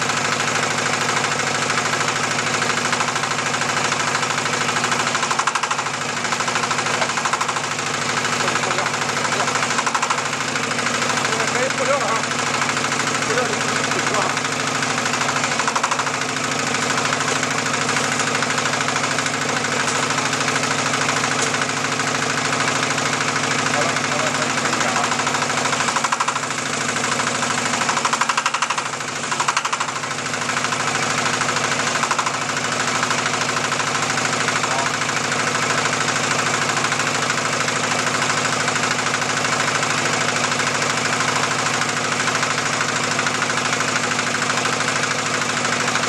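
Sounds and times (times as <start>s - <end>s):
diesel engine knocking: 0.0s - 46.0s.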